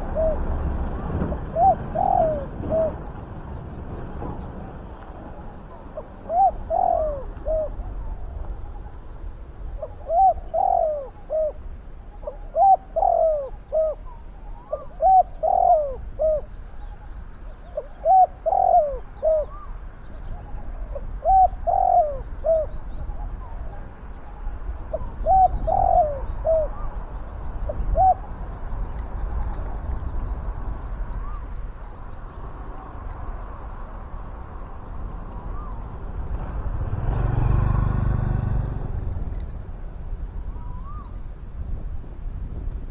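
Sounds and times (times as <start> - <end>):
dove cooing: 0.0 - 28.8, 31.2 - 31.5, 32.6 - 39.4, 40.5 - 41.2.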